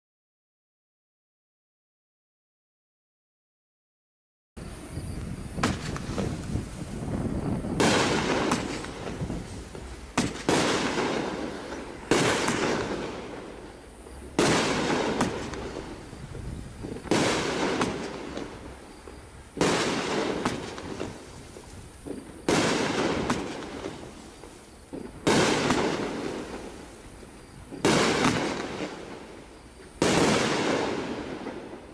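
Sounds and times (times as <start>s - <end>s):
fireworks bangs with crackle: 4.9s - 31.9s.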